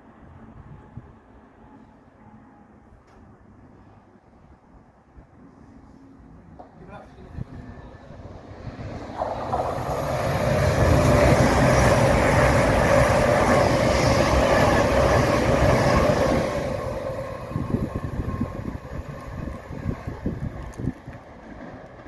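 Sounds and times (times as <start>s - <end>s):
diesel train passing at speed: 0.0s - 22.0s.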